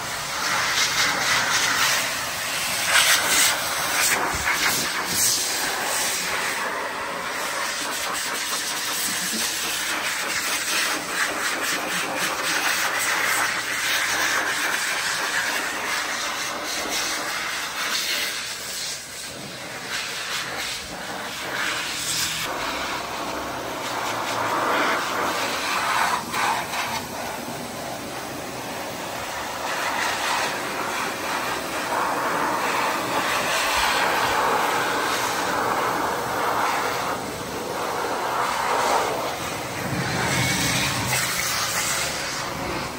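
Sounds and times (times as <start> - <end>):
blower dryer air rushing: 0.0 - 42.9.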